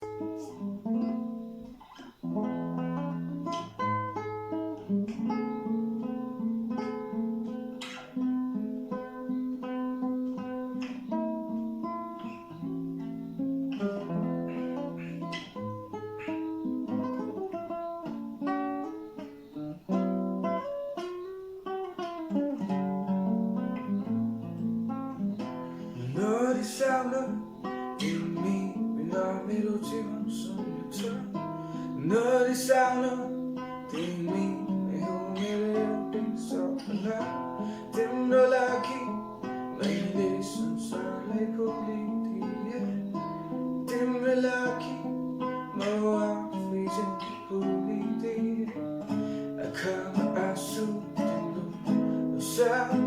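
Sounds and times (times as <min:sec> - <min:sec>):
guitar playing chords: 0:00.0 - 0:53.0.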